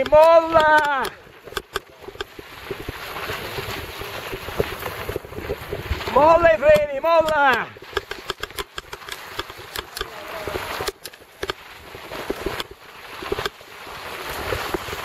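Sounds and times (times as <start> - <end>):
bike rattling over bumps: 0.0 - 15.0
tyre and wind noise: 0.0 - 15.0.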